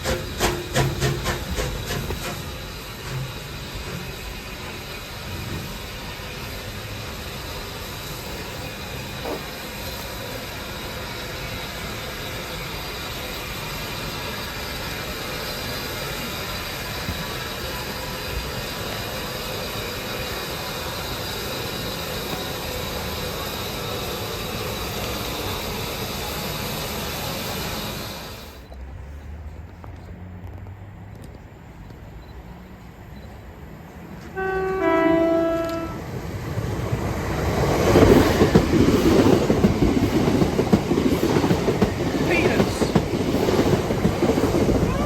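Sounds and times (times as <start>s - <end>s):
train running: 0.0s - 45.0s.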